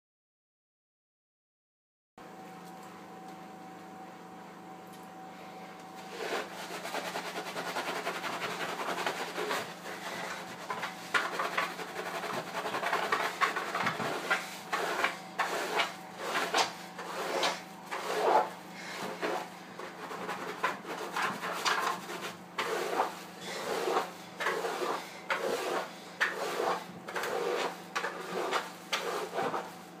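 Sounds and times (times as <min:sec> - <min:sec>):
brush scrubbing wet hair: 0:06.0 - 0:30.0.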